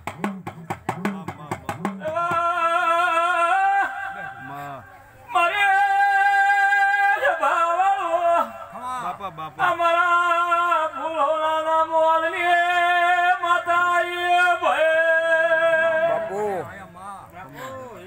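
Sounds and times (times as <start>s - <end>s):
man chanting: 0.2s - 18.0s.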